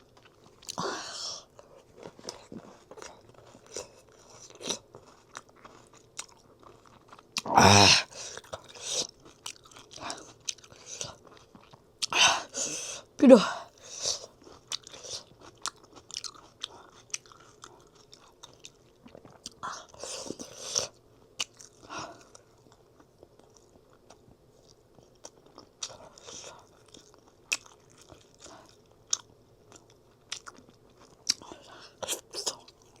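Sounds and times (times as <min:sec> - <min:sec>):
person chewing food: 0:00.0 - 0:13.1, 0:13.7 - 0:33.0
food crunching: 0:01.6 - 0:12.2, 0:14.2 - 0:33.0.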